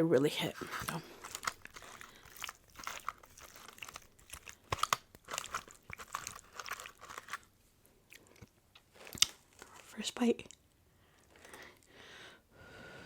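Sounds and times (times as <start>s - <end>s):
crisp food crunching: 0.6s - 7.5s, 8.1s - 11.9s.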